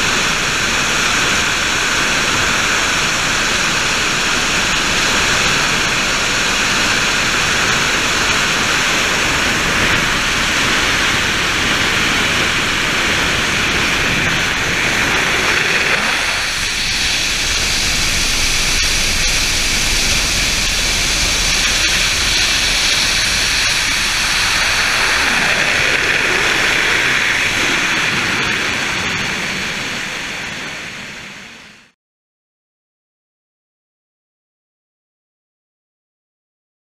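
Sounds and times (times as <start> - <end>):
rushing air: 0.0 - 31.9
helicopter engine and rotor noise: 0.0 - 32.0.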